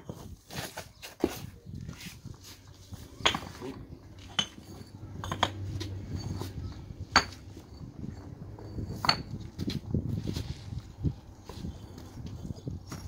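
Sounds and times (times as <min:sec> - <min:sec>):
block pavers clinking: 0:00.0 - 0:13.0.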